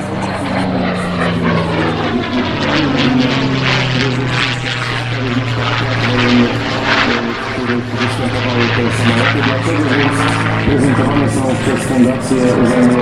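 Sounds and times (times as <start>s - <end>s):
propeller plane flying past: 0.0s - 13.0s.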